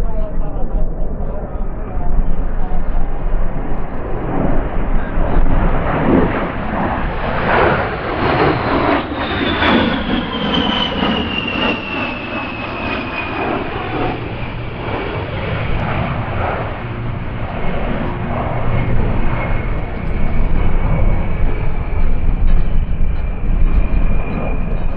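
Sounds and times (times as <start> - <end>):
jet engines roaring with whine: 0.0 - 24.9.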